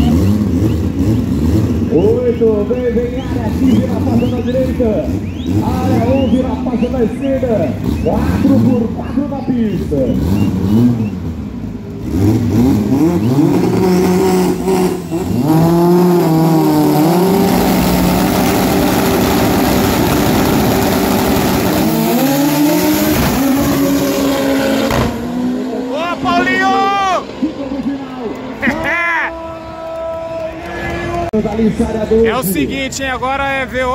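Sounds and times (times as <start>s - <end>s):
car engine accelerating hard: 0.0s - 28.8s.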